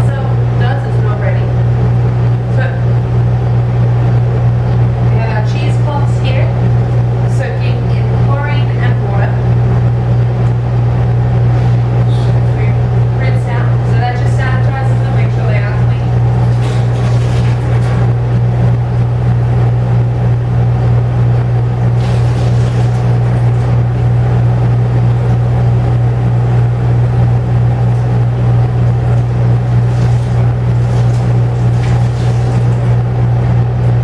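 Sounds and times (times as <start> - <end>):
air conditioner running: 0.0 - 34.0.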